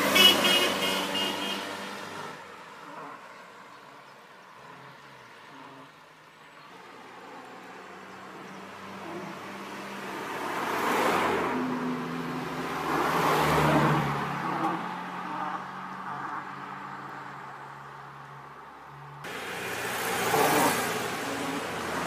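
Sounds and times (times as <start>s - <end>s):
cars driving past: 0.0s - 22.0s.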